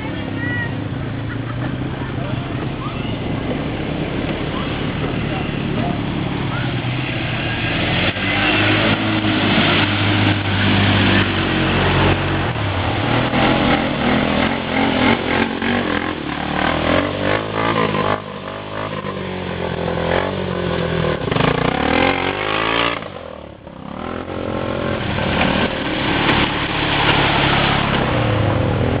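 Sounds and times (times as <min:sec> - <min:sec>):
engine running and revving: 0:00.0 - 0:29.0.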